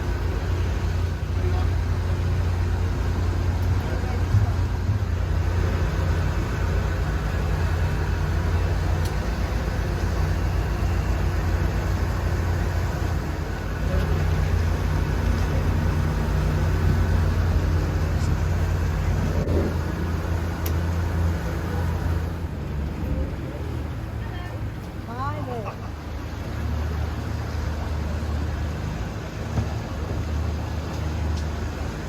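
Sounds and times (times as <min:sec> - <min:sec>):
boat motor droning: 0:00.0 - 0:32.0.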